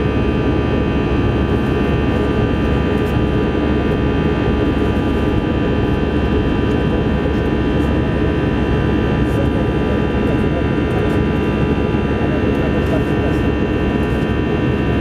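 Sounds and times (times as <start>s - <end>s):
jet engines rushing inside cabin: 0.0s - 15.0s.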